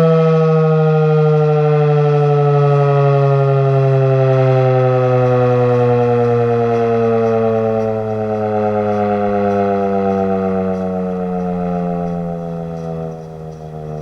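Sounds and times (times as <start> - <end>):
warning siren falling tone: 0.0 - 14.0.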